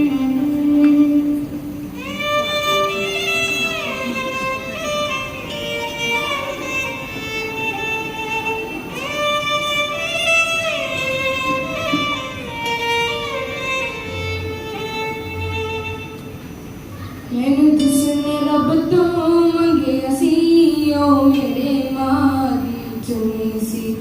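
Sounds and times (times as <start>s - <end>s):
violin playing slow melody: 0.0s - 23.2s.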